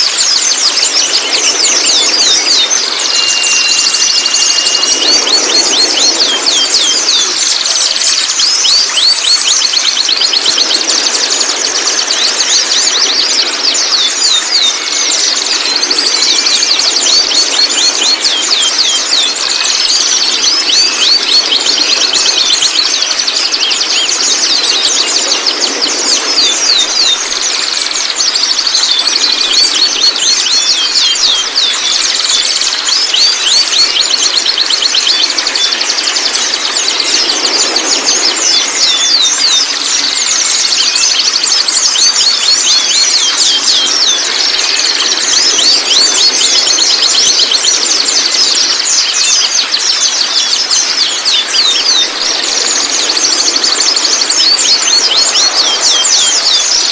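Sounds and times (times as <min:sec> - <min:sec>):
young birds babbling chirps: 0:00.0 - 0:56.9.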